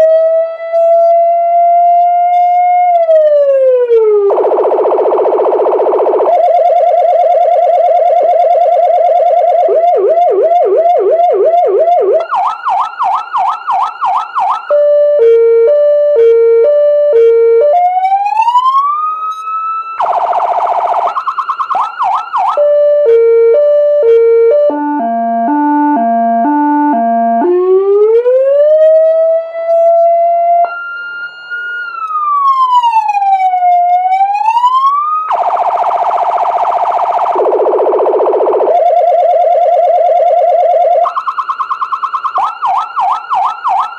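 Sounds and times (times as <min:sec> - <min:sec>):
electronic vehicle siren: 0:00.0 - 0:43.9.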